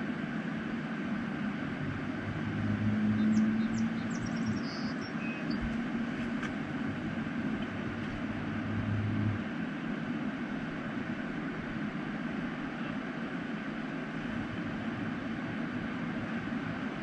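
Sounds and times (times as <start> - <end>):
low engine-like hum: 0.0 - 17.0
wind: 0.0 - 17.0.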